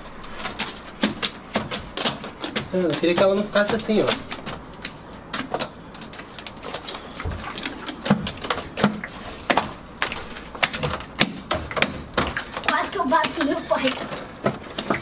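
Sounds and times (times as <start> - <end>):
slime squelching and popping: 0.2 - 15.0.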